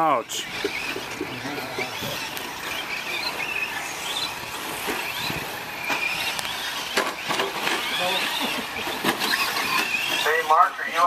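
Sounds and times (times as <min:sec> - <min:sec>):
toy truck motors whining: 0:00.0 - 0:11.0.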